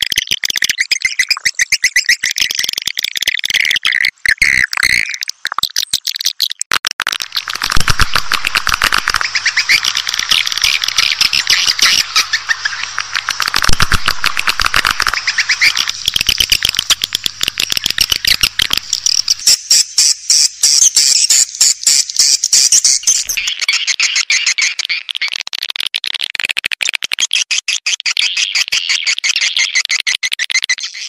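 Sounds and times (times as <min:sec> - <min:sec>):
swiftlets chirping and clicking: 0:00.0 - 0:31.0.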